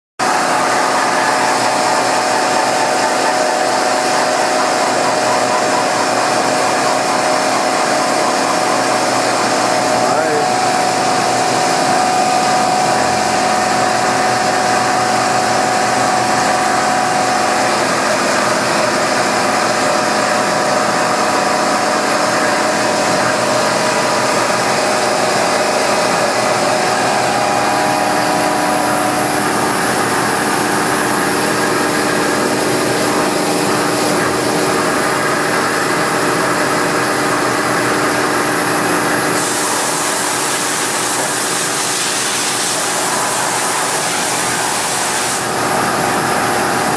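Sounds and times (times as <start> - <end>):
coolant spraying: 0.2 - 46.9
machine milling tones: 0.2 - 46.9.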